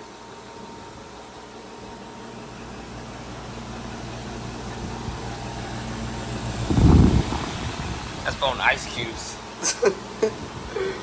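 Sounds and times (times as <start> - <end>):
heat pump humming: 0.0 - 11.0.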